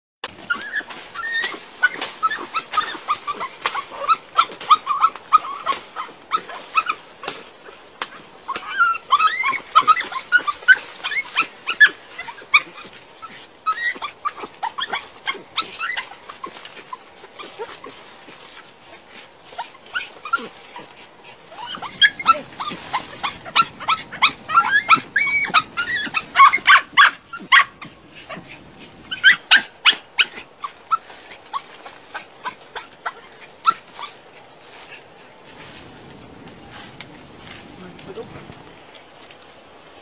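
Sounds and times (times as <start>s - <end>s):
dogs yipping and whining: 0.2s - 35.5s, 36.2s - 37.0s.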